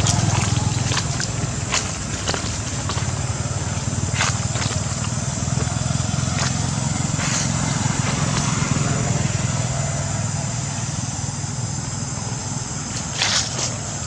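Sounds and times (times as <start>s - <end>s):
engine running with pulsing rumble: 0.0s - 14.0s.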